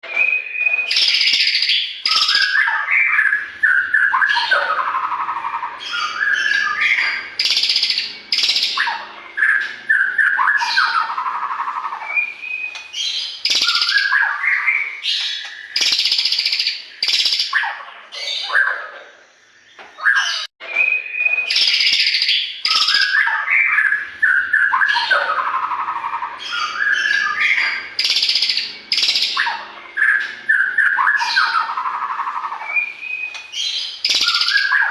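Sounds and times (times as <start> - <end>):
bird singing whistled phrases: 0.0 - 18.8, 20.0 - 34.9.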